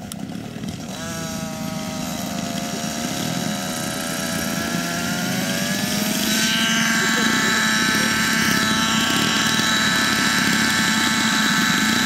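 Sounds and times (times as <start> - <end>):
model helicopter whine and drone: 0.0 - 12.0.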